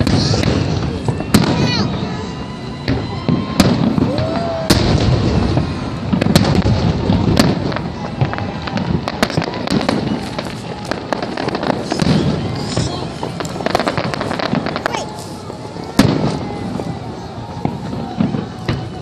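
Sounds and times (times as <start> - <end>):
fireworks bangs and crackles: 0.0 - 19.0
rumble of explosions: 0.0 - 19.0.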